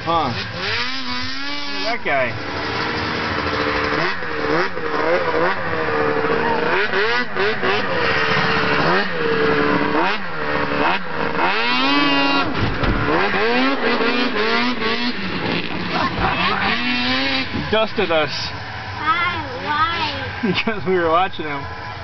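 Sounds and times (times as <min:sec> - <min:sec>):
snowmobile engines revving: 0:00.0 - 0:22.0.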